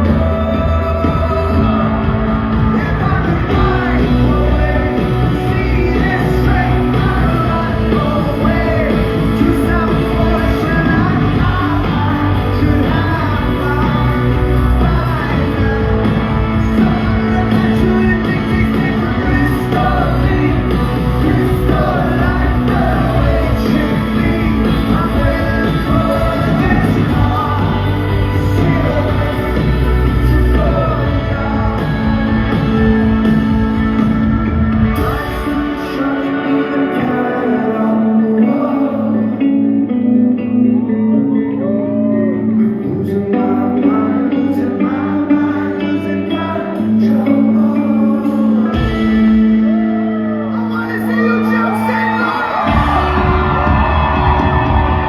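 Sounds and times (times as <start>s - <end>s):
lead singer singing: 0.0s - 55.0s
loud rock band playing: 0.0s - 55.0s.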